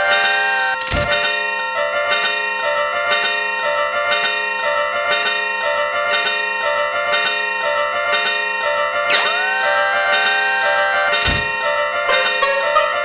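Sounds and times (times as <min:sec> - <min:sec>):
level crossing bells clanging: 0:00.0 - 0:12.8.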